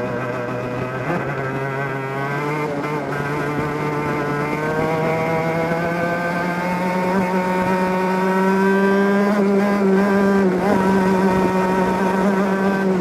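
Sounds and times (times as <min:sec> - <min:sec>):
kart engine at high revs: 0:00.0 - 0:13.0.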